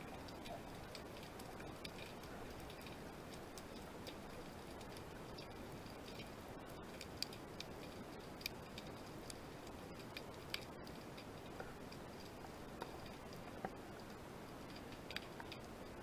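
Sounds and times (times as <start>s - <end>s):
sharp clicks and crackles: 0.0s - 16.0s.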